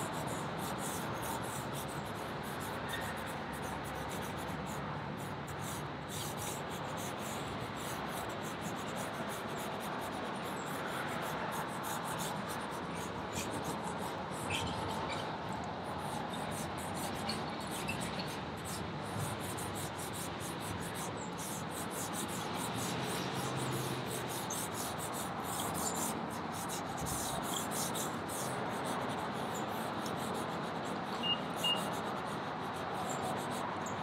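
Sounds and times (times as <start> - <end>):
charcoal scratching on paper: 0.0 - 34.0.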